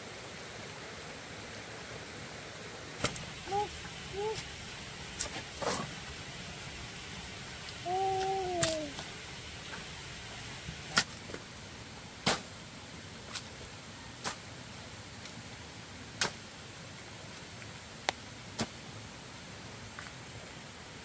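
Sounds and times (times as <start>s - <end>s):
faint hiss: 0.0s - 21.0s.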